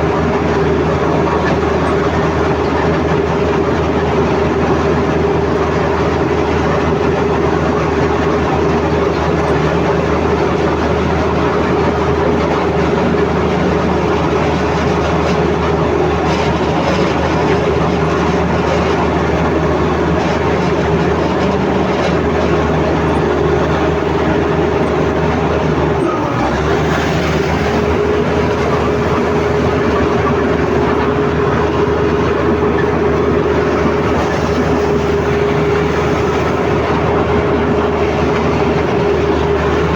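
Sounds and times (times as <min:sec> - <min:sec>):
bulldozer engine under load: 0:00.0 - 0:39.9.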